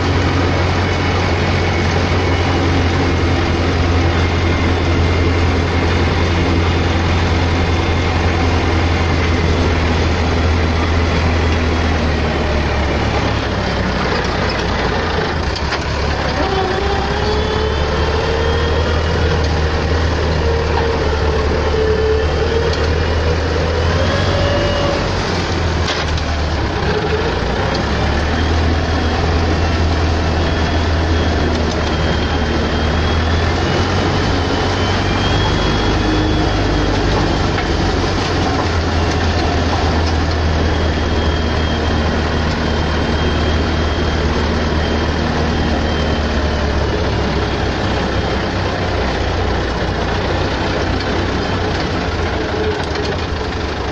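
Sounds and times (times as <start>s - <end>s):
tractor diesel engine drone: 0.0s - 53.9s.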